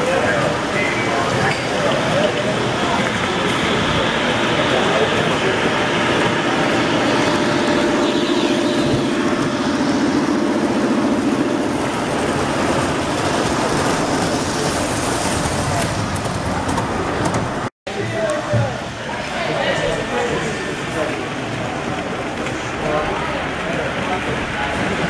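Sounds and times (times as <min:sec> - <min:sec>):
model train wheels rumbling on rail: 0:00.0 - 0:25.0.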